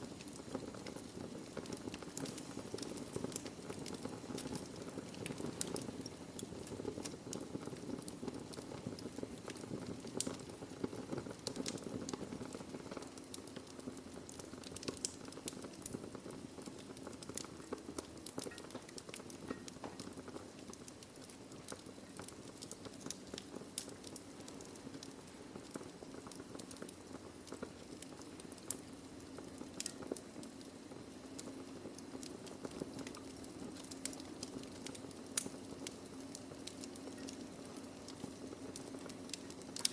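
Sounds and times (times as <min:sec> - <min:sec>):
burning logs crackling: 0:00.0 - 0:39.9
fire flames hissing: 0:00.0 - 0:39.9.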